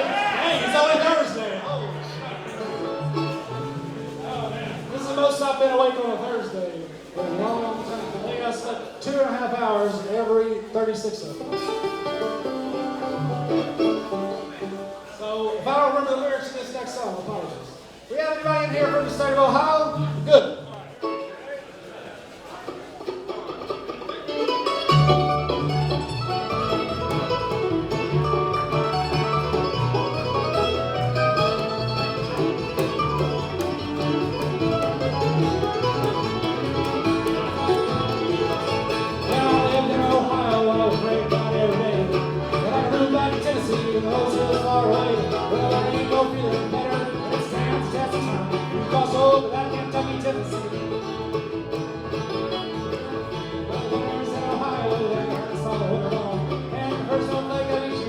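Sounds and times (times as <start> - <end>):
bluegrass band playing: 0.0 - 58.0.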